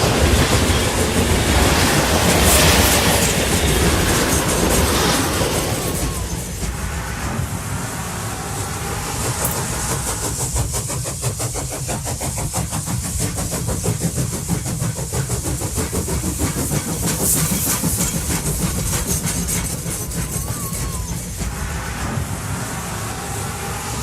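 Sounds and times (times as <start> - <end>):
fast mechanical chugging: 0.0 - 24.0.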